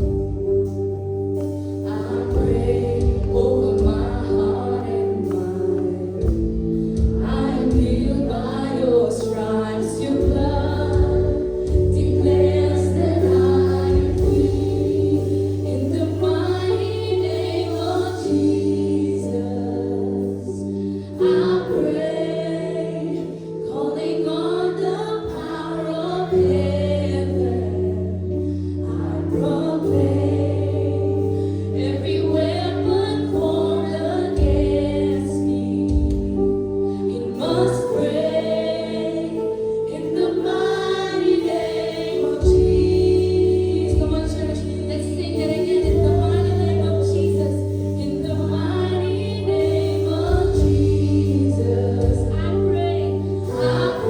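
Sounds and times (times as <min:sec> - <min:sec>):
steady bass: 0:00.0 - 0:24.5, 0:25.2 - 0:54.0
group singing worship song: 0:00.0 - 0:54.0.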